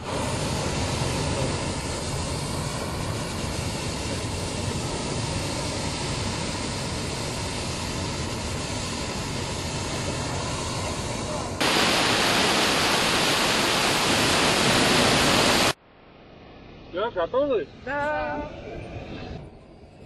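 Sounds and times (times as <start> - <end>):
hot air balloon equipment roaring: 0.0 - 20.0.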